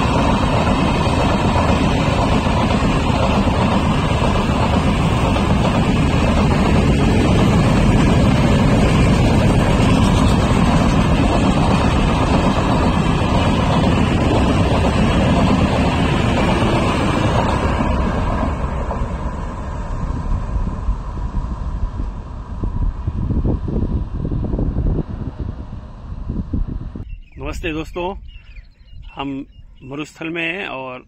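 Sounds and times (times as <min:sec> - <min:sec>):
express train rumbling past: 0:00.0 - 0:27.9
wind buffeting microphone: 0:00.0 - 0:29.8.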